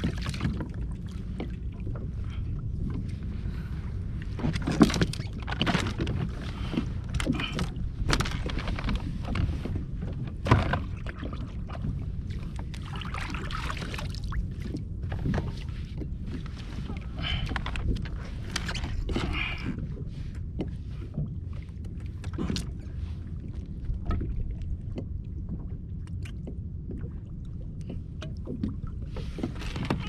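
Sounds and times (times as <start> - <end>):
knocks and splashes against hull: 0.0 - 30.0
water sloshing against kayak: 0.0 - 30.0
wind rumbling on microphone: 0.0 - 30.0.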